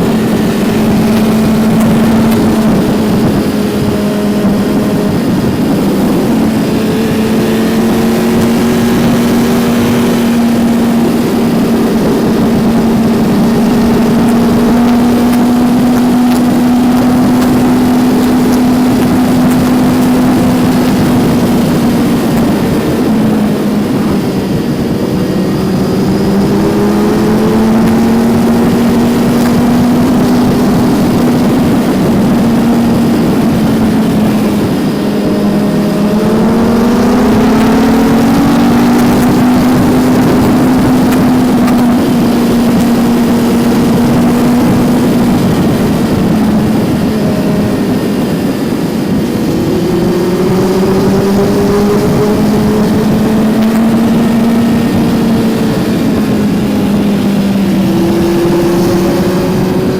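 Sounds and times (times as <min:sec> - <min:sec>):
motorcycle engine running: 0:00.0 - 0:59.9
wind noise: 0:00.0 - 0:59.9.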